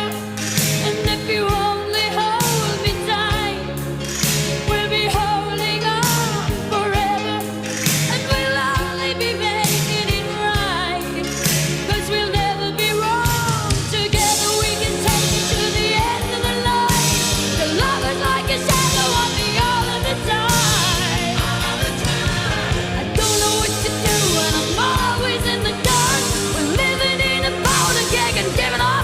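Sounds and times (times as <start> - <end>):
rock song with vocals: 0.0 - 29.0.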